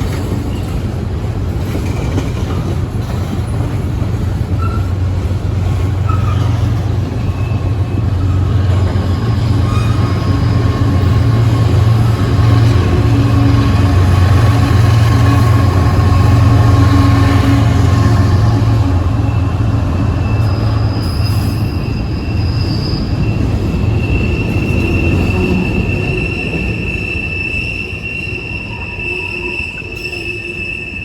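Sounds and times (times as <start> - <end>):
train rumbling past: 0.0 - 31.0
wheels squealing on rails: 0.0 - 31.0.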